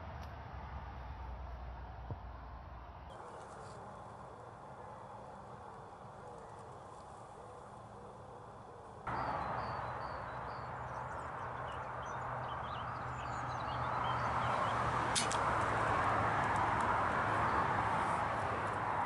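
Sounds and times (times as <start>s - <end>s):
low hum and rushing noise: 0.0s - 19.0s
small birds chirping: 2.7s - 19.0s.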